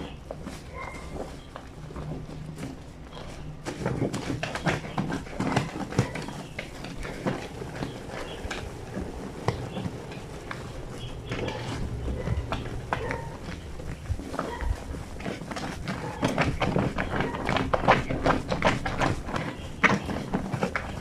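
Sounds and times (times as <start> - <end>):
wet fabric rubbed on stone: 3.0 - 21.0.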